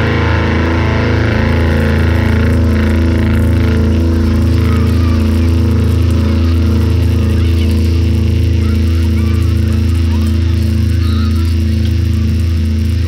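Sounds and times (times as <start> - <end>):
distorted bass drone: 0.0 - 13.0.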